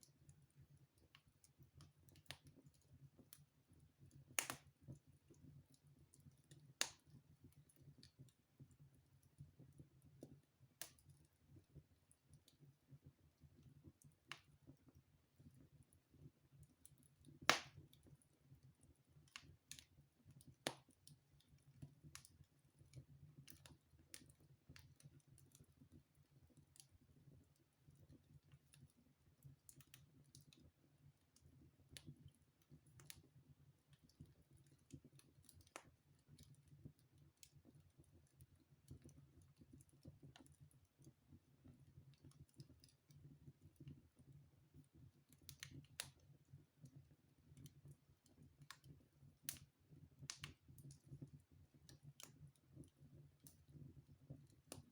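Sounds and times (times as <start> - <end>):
wood fire crackling: 0.1 - 8.8, 9.5 - 54.9.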